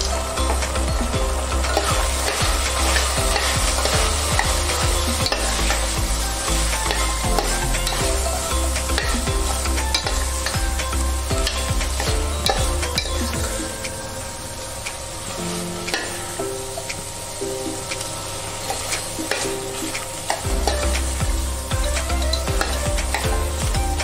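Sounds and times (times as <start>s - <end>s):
meat sizzling: 0.0s - 24.0s.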